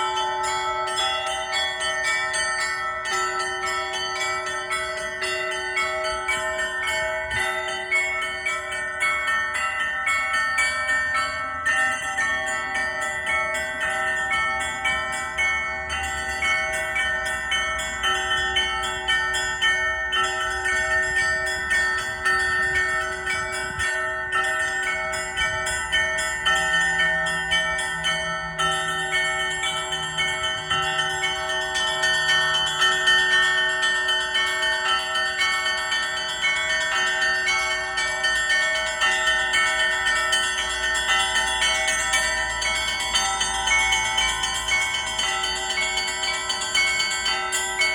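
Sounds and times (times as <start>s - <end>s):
large bells ringing: 0.0s - 47.9s
small bells struck rapidly: 0.0s - 47.9s.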